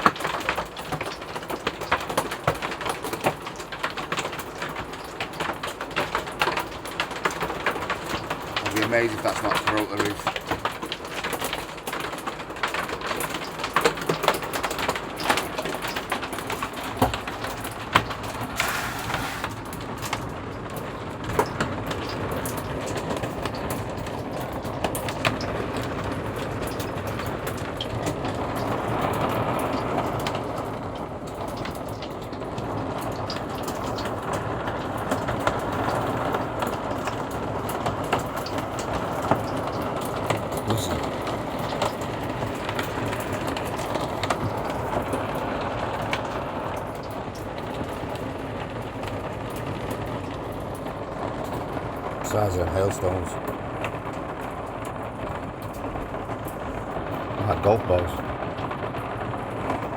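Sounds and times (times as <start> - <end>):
heavy hailstorm: 0.0 - 59.9.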